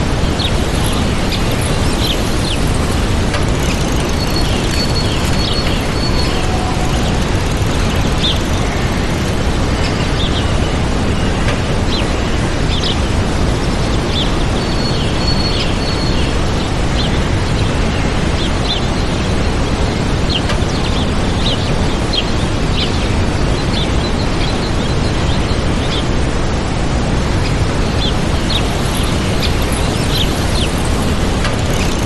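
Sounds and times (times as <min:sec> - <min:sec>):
small birds chirping: 0:00.2 - 0:26.2, 0:27.4 - 0:32.0.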